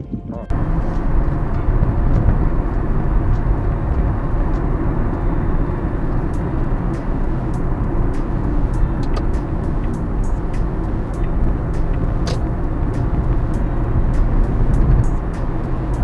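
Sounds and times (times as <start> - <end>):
engine and road noise rumble: 0.5 - 16.0
faint ticks: 0.5 - 16.0.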